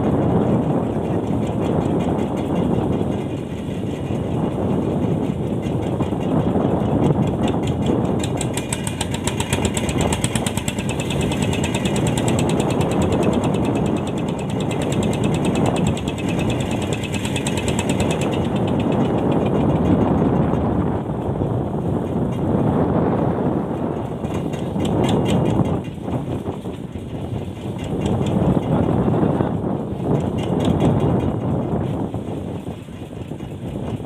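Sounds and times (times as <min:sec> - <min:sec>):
boat engine rumble: 0:00.0 - 0:34.0
sea noise: 0:00.0 - 0:34.0.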